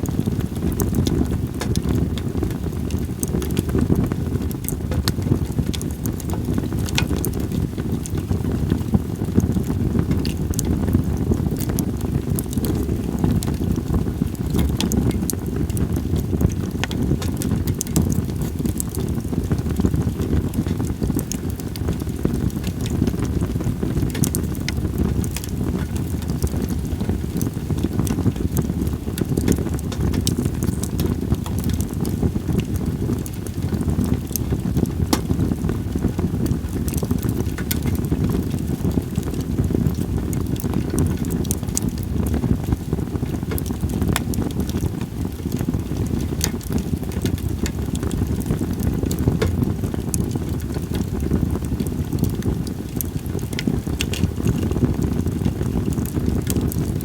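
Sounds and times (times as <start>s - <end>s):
campfire crackling and popping: 0.0s - 57.0s
wind rumbling on microphone: 0.0s - 57.0s.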